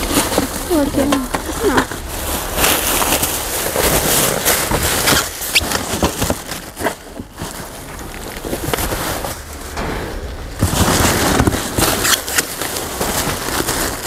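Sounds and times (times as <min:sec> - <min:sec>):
cardboard and packaging rustling: 0:00.0 - 0:14.0.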